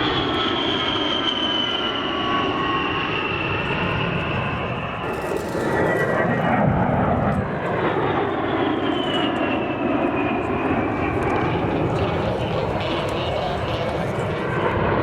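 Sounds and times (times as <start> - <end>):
jet engines flying past: 0.0 - 15.0.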